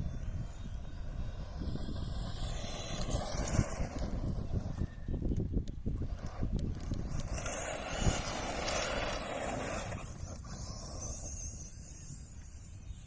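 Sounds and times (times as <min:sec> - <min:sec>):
rc truck motor: 0:00.0 - 0:13.0
wind buffeting microphone: 0:00.0 - 0:13.0.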